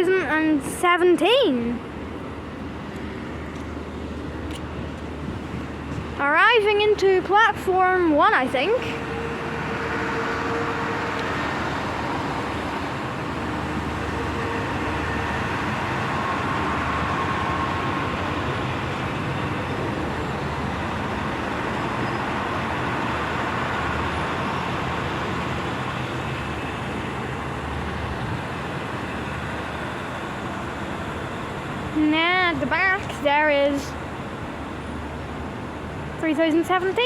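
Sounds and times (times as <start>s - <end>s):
diesel train running: 0.0s - 37.0s.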